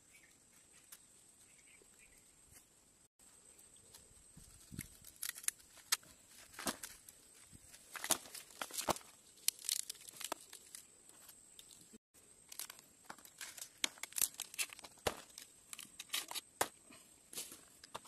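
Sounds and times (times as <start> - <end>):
leaves rustling and crinkling: 0.2 - 18.0.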